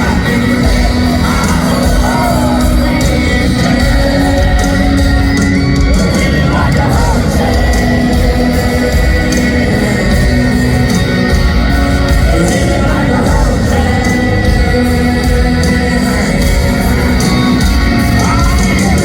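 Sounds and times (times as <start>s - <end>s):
live country band playing: 0.0s - 19.0s.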